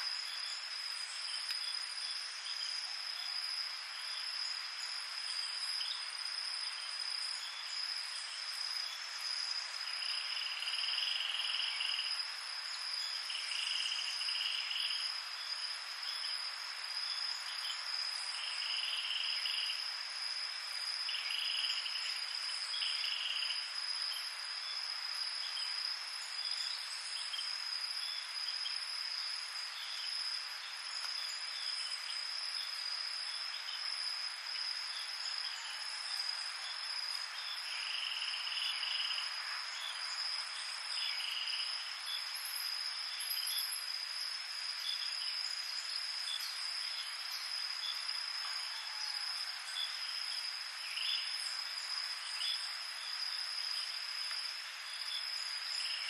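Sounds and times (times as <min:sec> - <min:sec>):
lower insect calls: 0:00.0 - 0:56.0.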